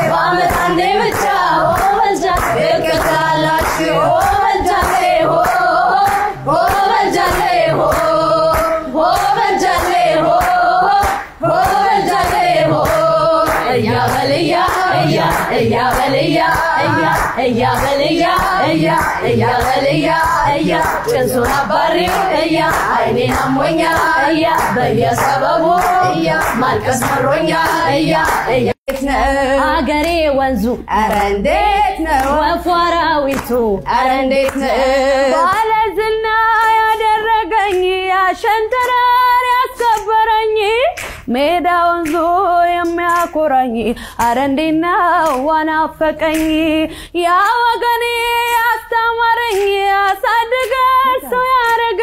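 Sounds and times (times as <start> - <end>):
hand claps: 0.0 - 29.2, 31.1 - 31.4, 32.0 - 34.8, 35.4 - 35.8, 36.5 - 43.6, 44.2 - 46.7, 47.4 - 52.0
women singing together: 0.0 - 52.0.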